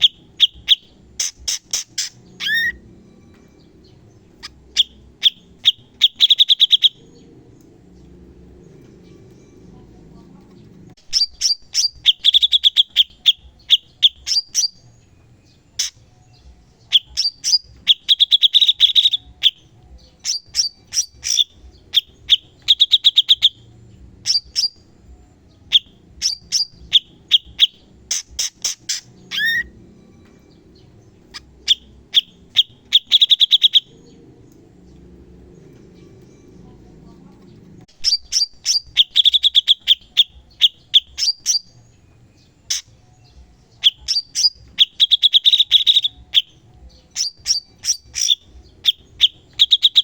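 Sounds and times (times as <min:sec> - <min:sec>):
bird song in rapid bursts: 0:00.0 - 0:50.0.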